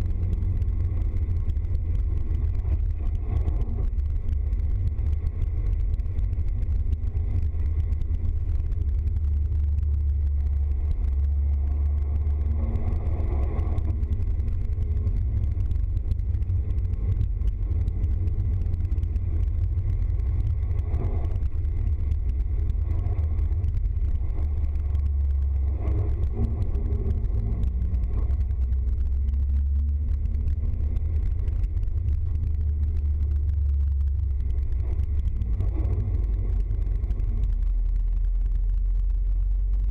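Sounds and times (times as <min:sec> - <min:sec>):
vehicle driving on wet road: 0:00.0 - 0:39.9.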